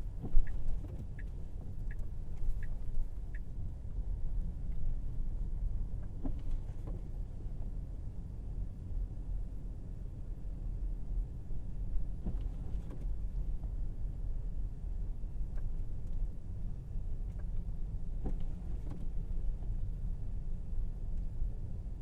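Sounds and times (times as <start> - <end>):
car road and tyre rumble: 0.0 - 22.0.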